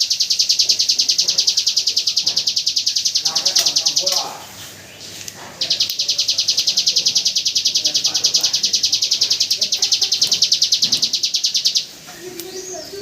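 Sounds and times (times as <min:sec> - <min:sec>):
bird singing rapid high notes: 0:00.0 - 0:13.0.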